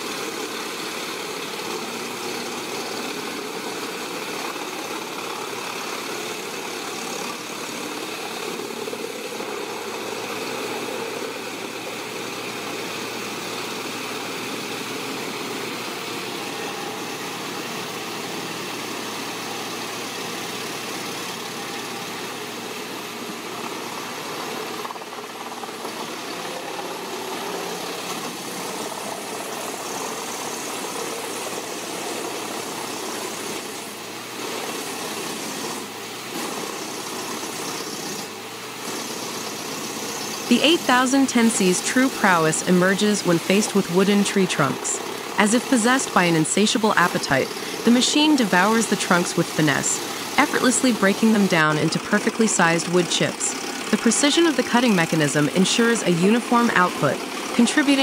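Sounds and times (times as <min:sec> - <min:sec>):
rollers shredding logs: 0:00.0 - 0:58.0
wood chipper engine drone: 0:00.0 - 0:58.0.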